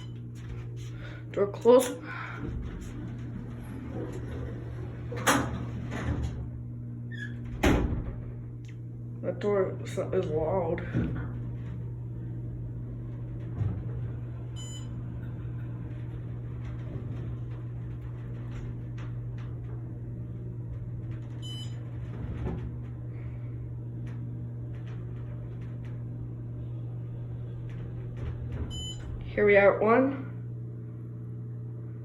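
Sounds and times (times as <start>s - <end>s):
elevator car humming: 0.0s - 32.0s.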